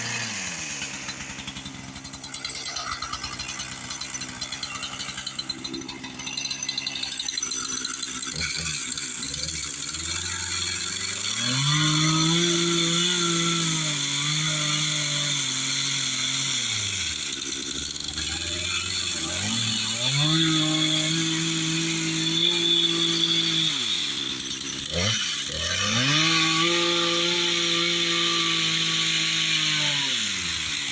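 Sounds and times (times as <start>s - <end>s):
chainsaw engine idling and revving: 0.0s - 30.9s.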